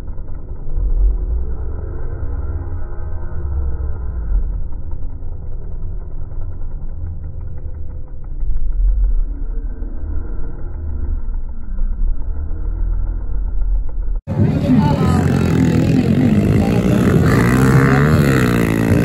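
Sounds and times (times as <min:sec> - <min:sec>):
distant motorbike engines: 0:00.0 - 0:19.0
low rumble: 0:00.0 - 0:19.0.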